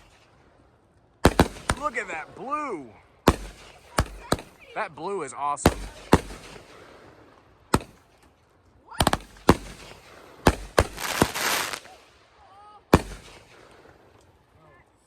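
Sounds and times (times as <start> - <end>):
fireworks bangs: 0.0 - 0.4, 1.2 - 8.2, 9.0 - 14.2
fireworks crackling: 0.0 - 14.6.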